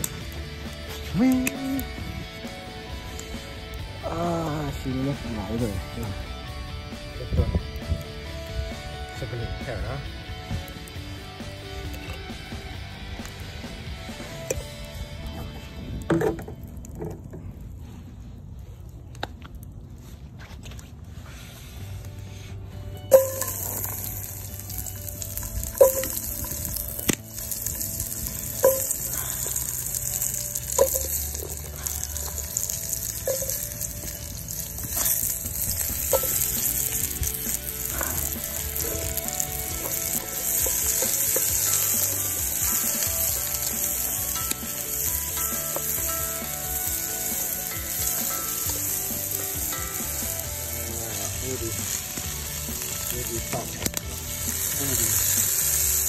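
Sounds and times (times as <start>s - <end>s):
hot oil sizzling in a pot: 0.0s - 15.7s, 23.1s - 56.0s.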